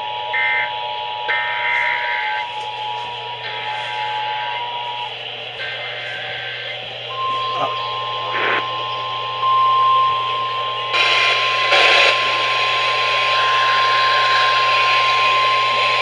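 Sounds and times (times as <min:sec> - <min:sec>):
steady alarm beep: 0:00.3 - 0:16.0
radio hiss and static: 0:01.3 - 0:16.0.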